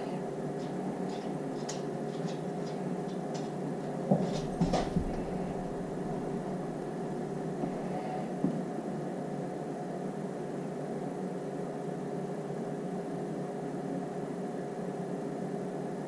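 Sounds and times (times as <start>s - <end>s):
cooling fans humming: 0.0s - 16.0s.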